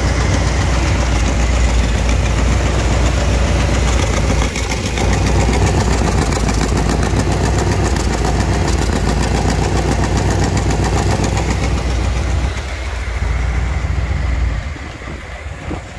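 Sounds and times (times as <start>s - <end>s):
car engine idling: 0.0s - 15.9s
engine ticking: 0.0s - 15.9s.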